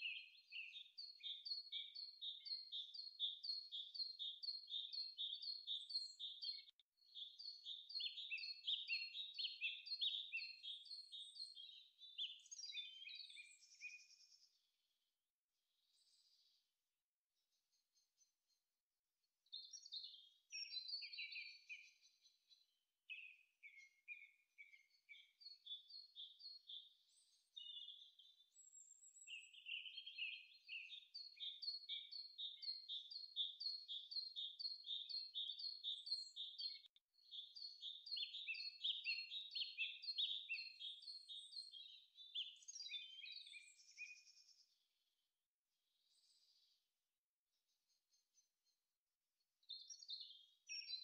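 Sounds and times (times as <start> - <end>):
small birds chirping: 0.0 - 14.7, 15.8 - 16.7, 19.4 - 44.9, 45.9 - 46.8, 49.6 - 51.0.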